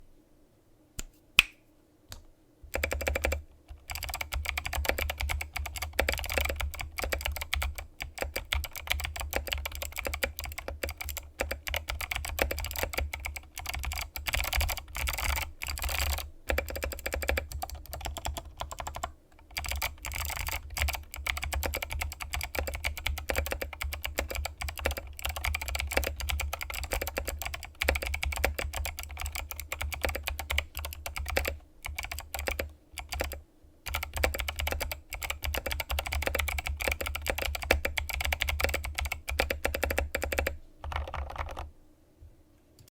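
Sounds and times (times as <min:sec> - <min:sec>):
mechanical keyboard typing: 0:02.7 - 0:41.7.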